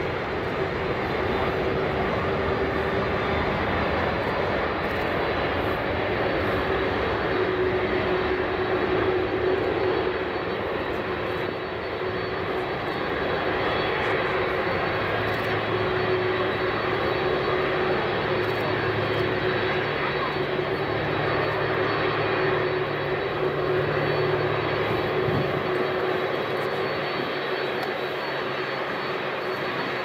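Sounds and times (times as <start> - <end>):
jet engines at takeoff power: 0.0 - 30.0.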